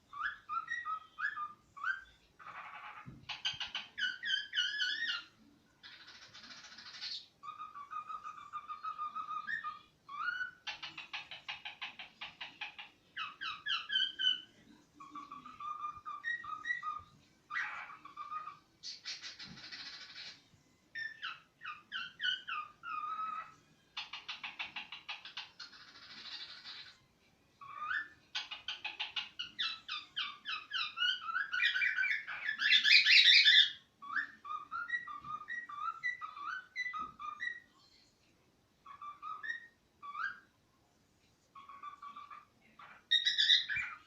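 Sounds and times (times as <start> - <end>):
cockatiel whistling and chattering: 0.1 - 27.0, 27.6 - 37.8, 38.8 - 40.6, 41.5 - 44.0.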